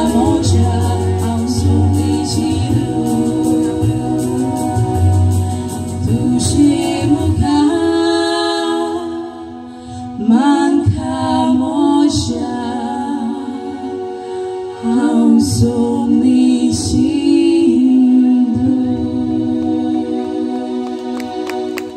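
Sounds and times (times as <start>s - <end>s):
musical accompaniment: 0.0s - 21.9s
person singing: 0.0s - 21.9s.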